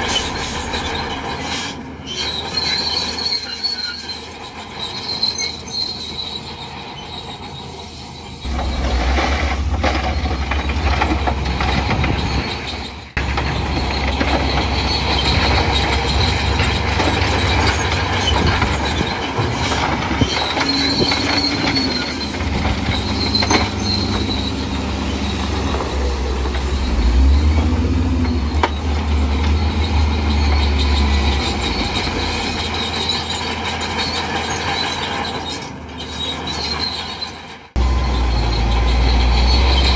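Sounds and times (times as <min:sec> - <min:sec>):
bulldozer diesel engine drone: 0:00.0 - 0:39.9
crawler tracks squealing and clanking: 0:00.0 - 0:39.9.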